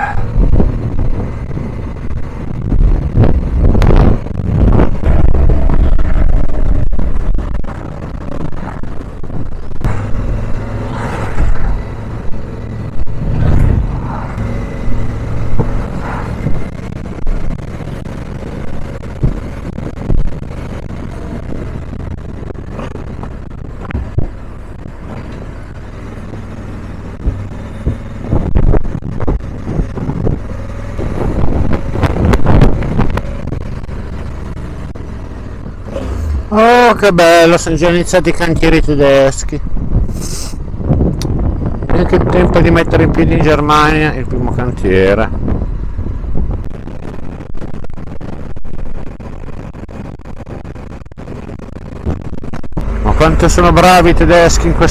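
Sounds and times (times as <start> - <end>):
motorcycle engine and road drone: 0.0 - 54.9
wind buffeting microphone: 0.0 - 54.9.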